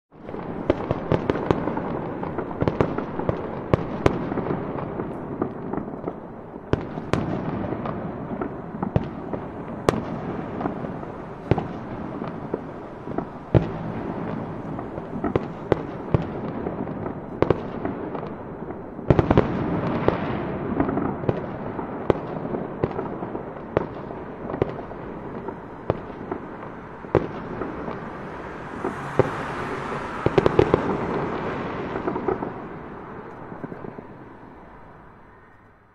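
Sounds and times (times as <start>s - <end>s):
fireworks rumble: 0.1s - 35.3s
fireworks bangs and cracks: 0.2s - 34.5s.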